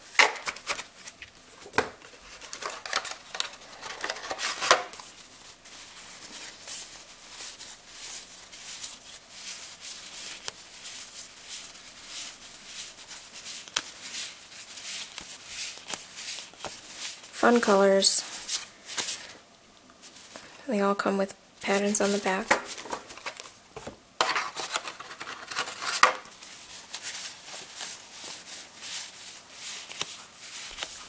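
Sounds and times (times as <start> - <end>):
cards rustling as flipped: 0.2 - 5.2, 5.9 - 17.3, 21.7 - 31.0.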